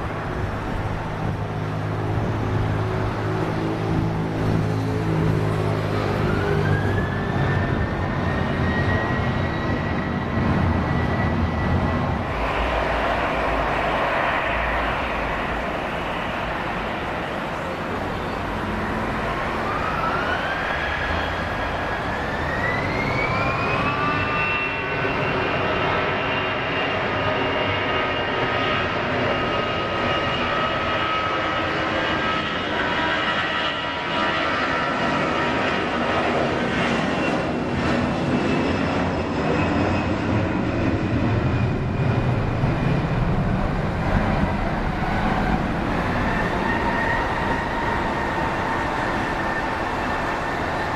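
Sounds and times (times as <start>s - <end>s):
jet engines running: 0.0s - 50.9s
jet engines spooling up: 2.7s - 50.9s.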